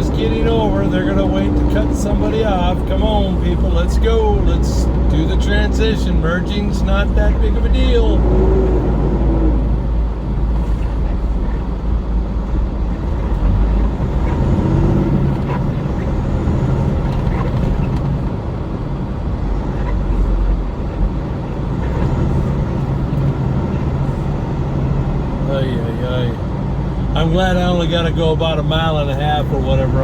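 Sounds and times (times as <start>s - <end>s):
road noise: 0.0s - 30.0s
vehicle engine drone: 0.0s - 30.0s.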